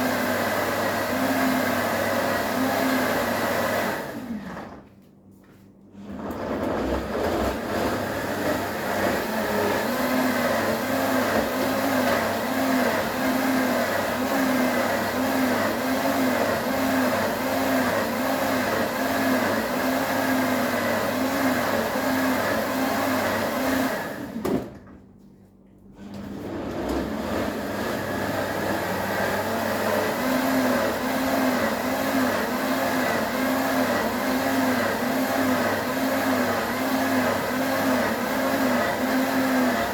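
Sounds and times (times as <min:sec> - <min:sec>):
blender motor blending ice: 0:00.0 - 0:04.8, 0:06.0 - 0:24.7, 0:26.0 - 0:39.9.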